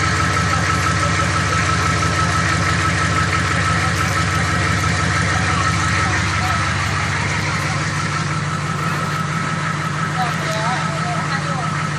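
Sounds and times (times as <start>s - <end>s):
diesel engine idling with knock: 0.0s - 11.9s.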